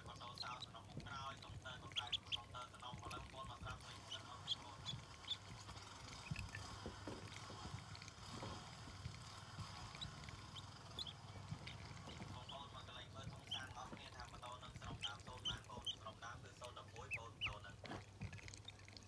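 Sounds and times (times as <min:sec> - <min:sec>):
ducklings peeping: 0:00.0 - 0:06.7, 0:09.6 - 0:19.0.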